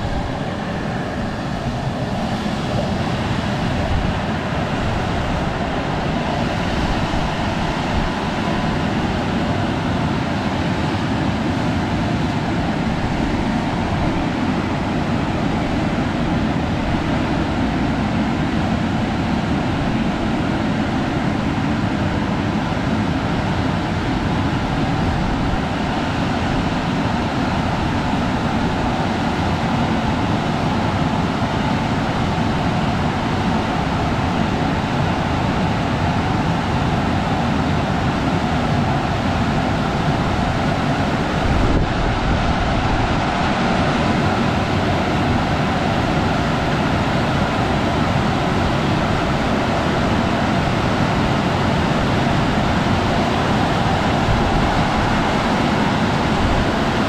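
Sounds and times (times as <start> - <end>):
car wash machinery rushing: 0.0 - 57.0.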